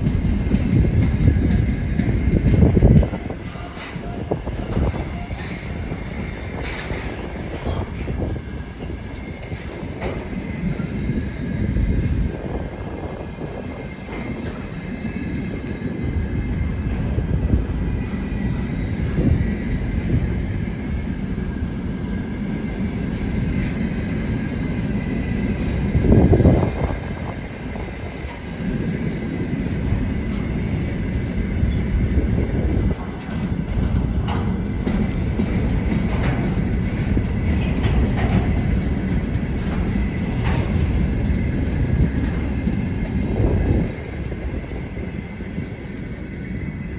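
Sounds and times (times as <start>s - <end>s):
wheels clacking over rail joints: 0.0s - 11.1s, 13.6s - 46.2s
freight train rumbling: 0.0s - 46.9s.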